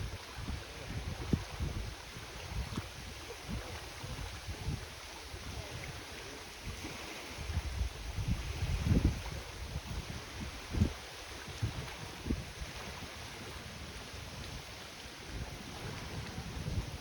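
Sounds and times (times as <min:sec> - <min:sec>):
small waves lapping shore: 0:00.0 - 0:17.0
wind buffeting microphone: 0:00.0 - 0:17.0.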